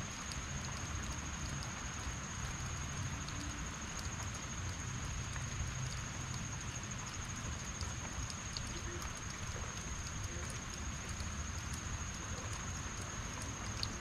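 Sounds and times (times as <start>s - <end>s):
heavy rain falling: 0.0s - 14.0s
drops ticking close by: 0.2s - 14.0s.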